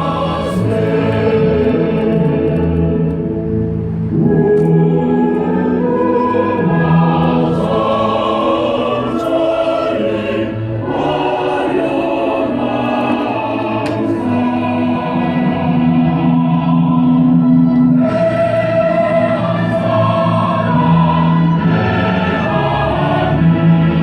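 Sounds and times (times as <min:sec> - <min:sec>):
choir singing slow held chords: 0:00.0 - 0:24.0.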